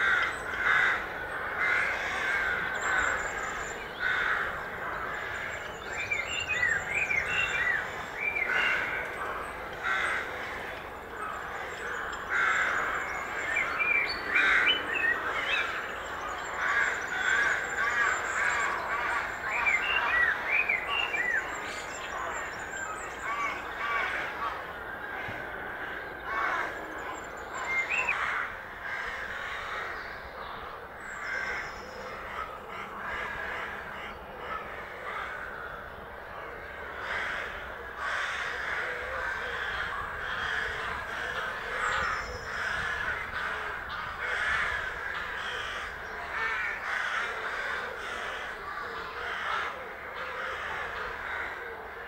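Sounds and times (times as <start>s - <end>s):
birds chorus: 0.0s - 52.0s.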